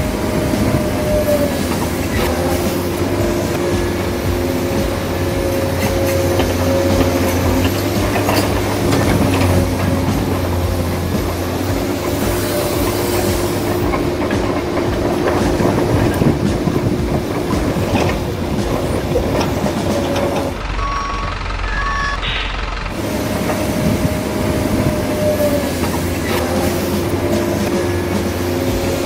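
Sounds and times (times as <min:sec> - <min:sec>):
electric motors whirring: 0:00.0 - 0:29.0.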